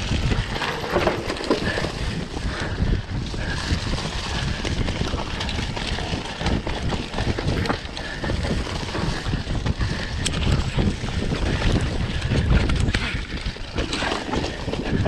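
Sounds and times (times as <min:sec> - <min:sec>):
dirt bike engine running: 0:00.0 - 0:15.0
wind buffeting microphone: 0:00.0 - 0:15.0.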